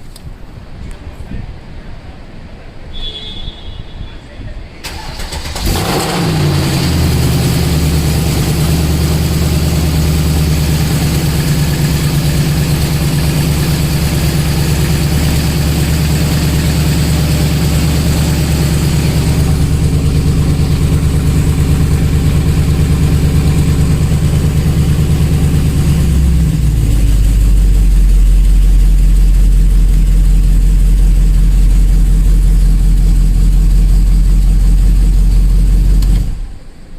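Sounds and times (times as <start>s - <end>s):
car engine fast idle: 4.8s - 36.8s.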